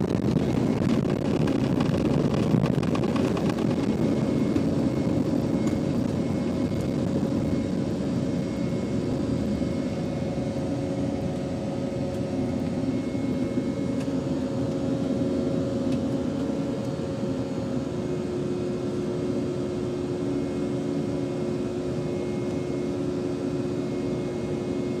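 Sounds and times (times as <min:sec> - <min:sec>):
jet airliner engines climbing: 0:00.0 - 0:25.0.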